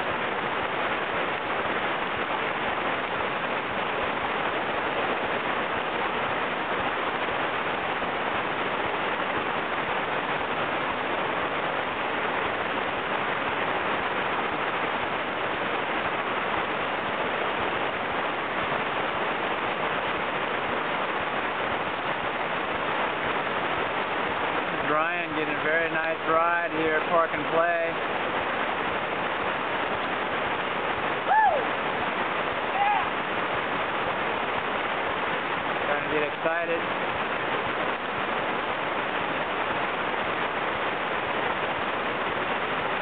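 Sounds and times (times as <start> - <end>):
whitewater rushing: 0.0 - 43.0.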